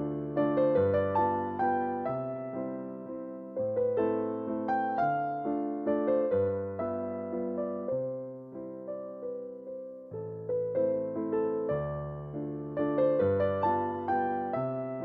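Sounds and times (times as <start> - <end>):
soft electric piano chords: 0.0 - 15.0.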